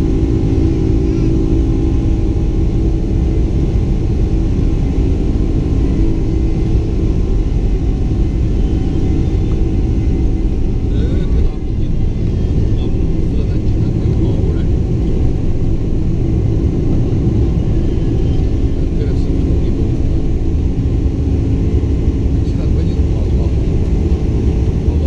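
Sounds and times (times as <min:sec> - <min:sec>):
jet engine hum in cabin: 0:00.0 - 0:25.0
runway rumble: 0:00.0 - 0:25.0.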